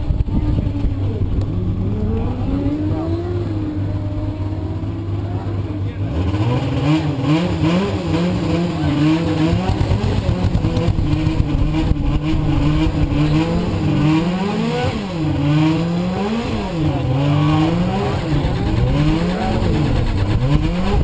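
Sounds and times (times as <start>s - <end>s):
race car engine revving: 0.0s - 21.0s.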